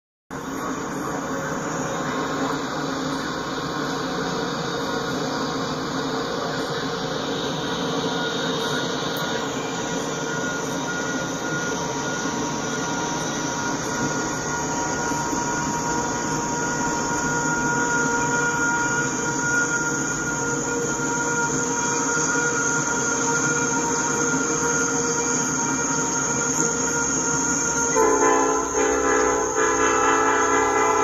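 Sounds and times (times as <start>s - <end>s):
train wheels rumbling on rails: 0.3s - 31.0s
high wheel squeal: 0.4s - 31.0s.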